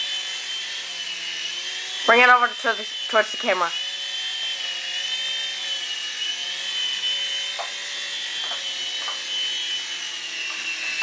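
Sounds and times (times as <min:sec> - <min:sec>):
rotors buzzing: 0:00.0 - 0:11.0
toy helicopter motor whine: 0:00.0 - 0:11.0.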